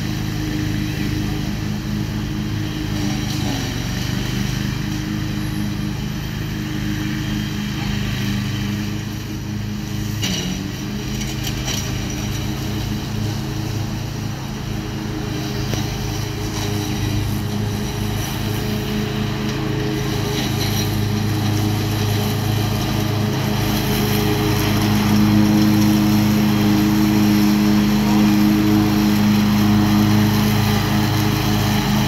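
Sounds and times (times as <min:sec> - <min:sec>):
ride-on mower running: 0:00.0 - 0:32.0.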